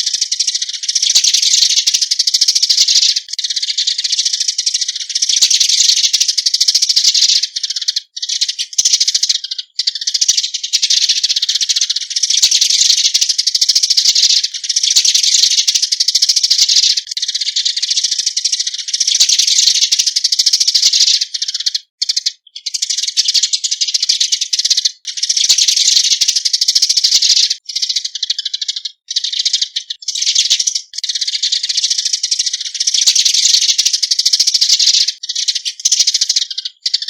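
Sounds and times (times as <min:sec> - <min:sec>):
sparrows chattering: 0:00.0 - 0:37.0.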